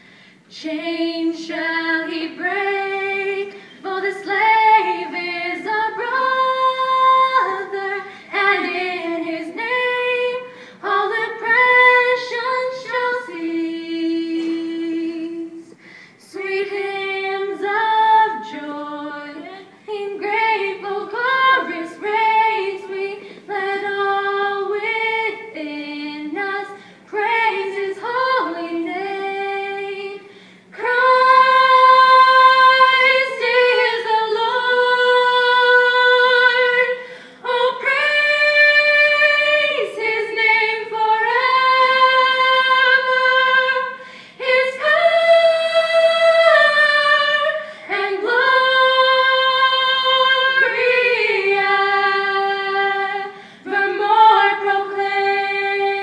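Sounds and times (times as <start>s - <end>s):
girls singing a cappella: 0.0s - 56.0s.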